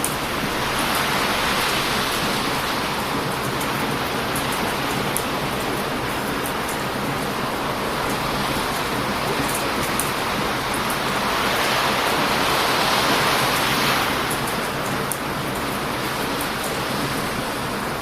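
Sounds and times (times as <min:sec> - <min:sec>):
bonfire crackling: 0:00.0 - 0:18.0
surf breaking on beach: 0:00.0 - 0:18.0.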